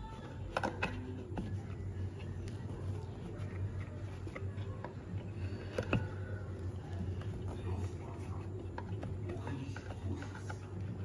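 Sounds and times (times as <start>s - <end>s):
soft fabric handling: 0.0s - 11.0s
steady low hum: 0.0s - 11.0s.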